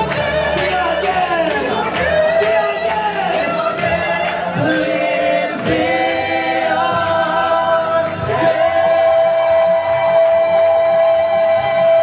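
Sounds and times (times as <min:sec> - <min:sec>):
backing music: 0:00.0 - 0:12.0
group of people singing: 0:00.0 - 0:12.0.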